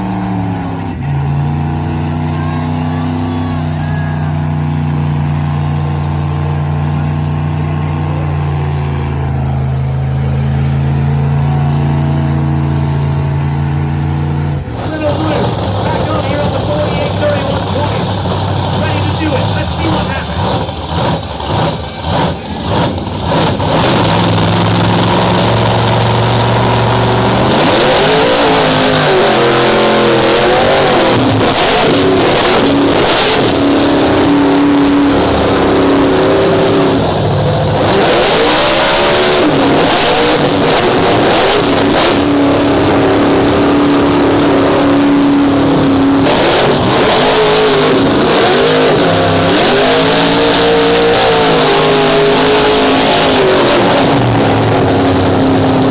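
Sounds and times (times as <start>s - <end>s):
truck engine revving at full throttle: 0.0s - 55.9s.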